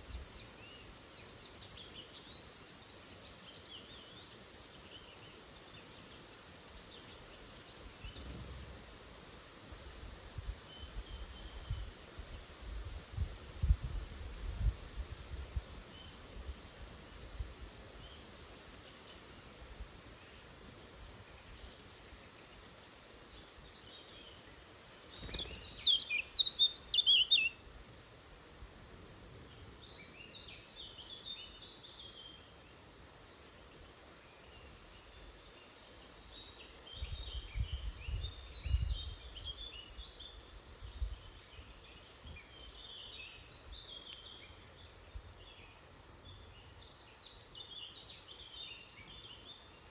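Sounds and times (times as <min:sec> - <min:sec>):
small birds chirping: 0:00.0 - 0:09.8, 0:13.1 - 0:28.1, 0:29.3 - 0:49.9
outdoor background hiss: 0:00.0 - 0:49.9.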